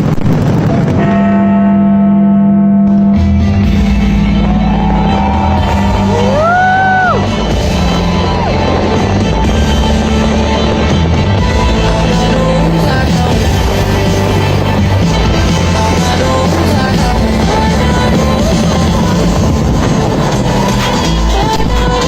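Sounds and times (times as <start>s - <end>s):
heavy low beat: 2.7s - 22.0s
loud rock music with guitar: 2.8s - 22.0s.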